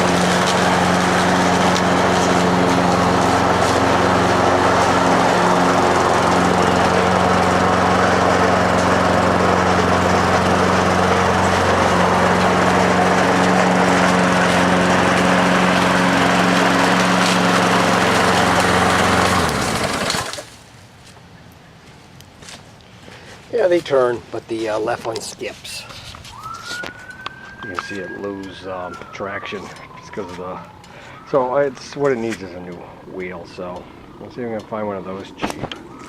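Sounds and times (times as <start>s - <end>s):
lawn mower engine running: 0.0s - 20.6s, 24.8s - 36.0s.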